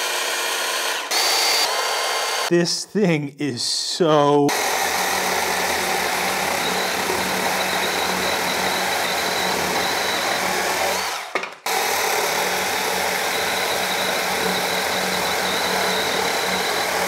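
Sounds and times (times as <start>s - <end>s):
chainsaw motor and chain whine: 0.0s - 2.5s, 4.5s - 17.0s.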